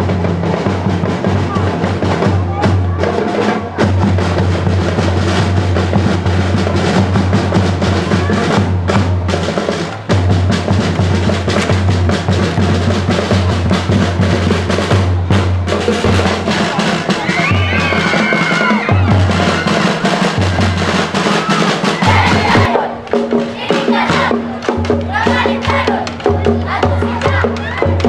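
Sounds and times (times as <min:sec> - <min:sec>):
fast drumming dance beat: 0:00.0 - 0:28.0.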